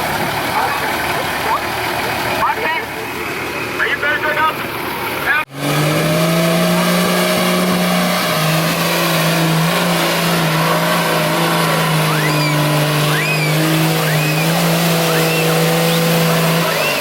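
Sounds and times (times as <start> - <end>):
off-road vehicle engine droning: 0.0 - 17.0.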